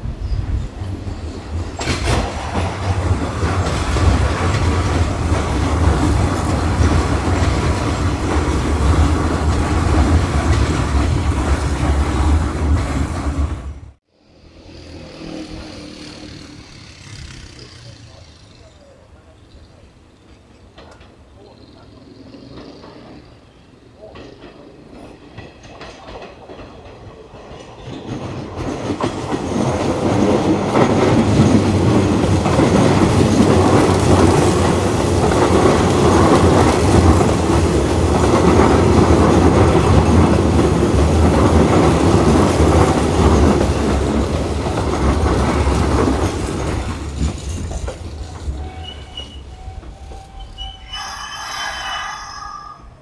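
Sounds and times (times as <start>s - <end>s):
electric train running through: 0.0s - 53.0s.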